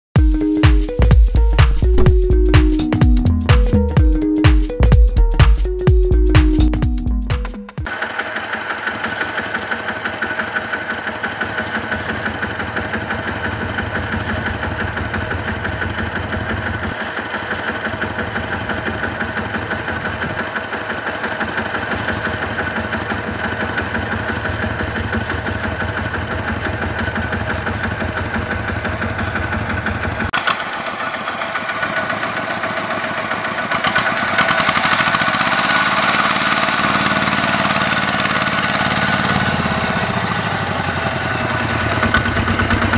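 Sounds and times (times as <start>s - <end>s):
diesel tractor engine running: 0.2s - 42.9s.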